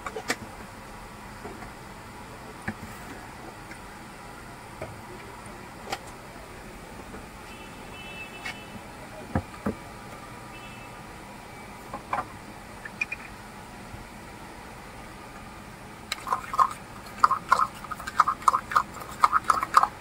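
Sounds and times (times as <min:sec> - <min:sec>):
street stall background hum: 0:00.0 - 0:20.0.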